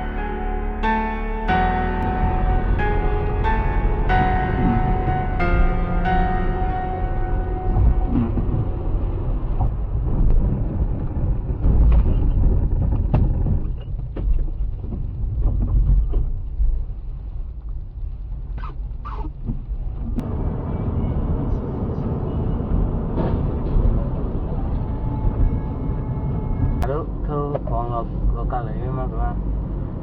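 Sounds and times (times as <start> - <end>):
vehicle and road noise rumble: 0.0 - 30.0.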